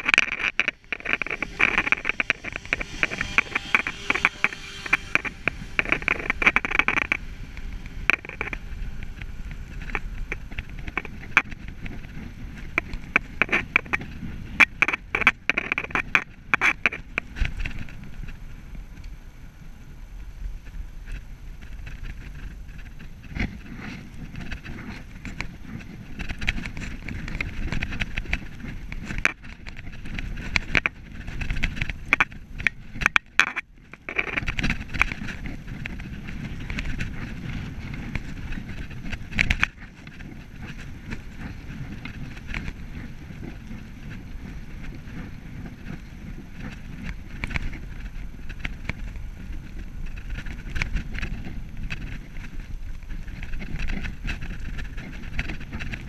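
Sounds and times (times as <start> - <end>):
bicycle tyre rumble: 0.0 - 56.0
wind on microphone: 0.0 - 56.0
bike rattling over paving: 6.8 - 56.0.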